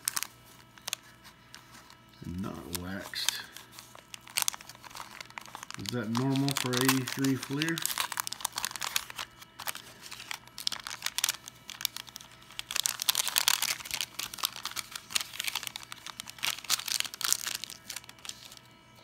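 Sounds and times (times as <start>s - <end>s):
paper wrapper crinkling: 0.0s - 19.0s.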